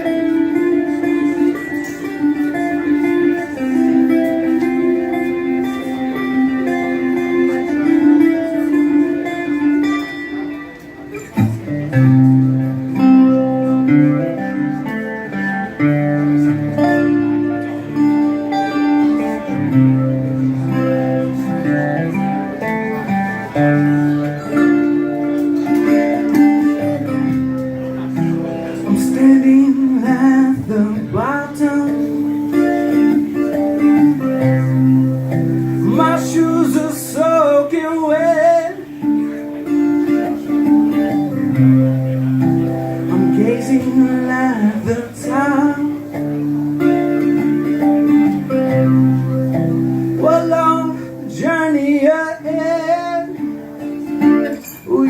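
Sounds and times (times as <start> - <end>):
blues guitar music: 0.0 - 55.0.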